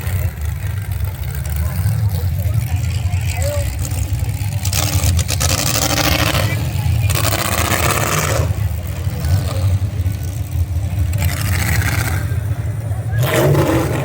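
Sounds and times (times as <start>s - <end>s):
truck engine running loudly: 0.0s - 14.0s.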